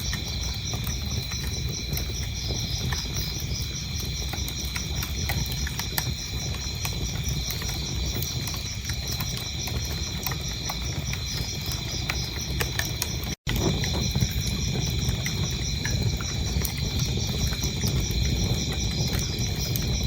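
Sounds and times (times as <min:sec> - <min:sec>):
crickets chirping: 0:00.0 - 0:20.0
wood fire crackling: 0:00.0 - 0:20.0.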